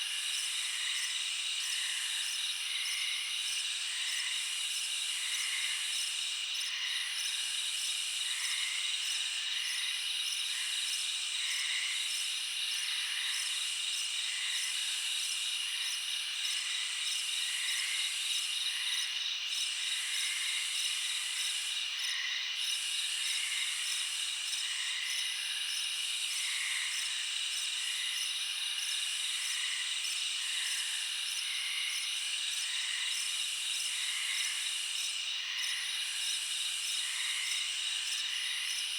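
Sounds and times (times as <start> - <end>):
high insect call: 0.0 - 38.9.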